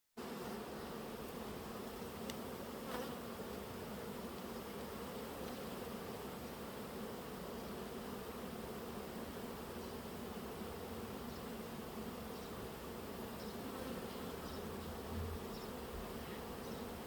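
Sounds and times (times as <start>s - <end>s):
honeybees buzzing: 0.2s - 17.0s.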